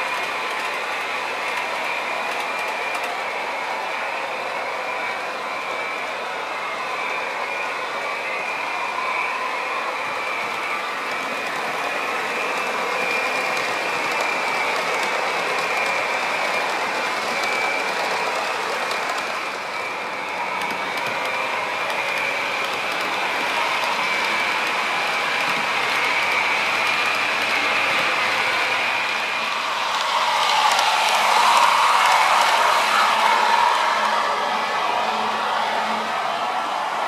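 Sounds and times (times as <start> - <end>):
model train motor whine: 0.0 - 36.4.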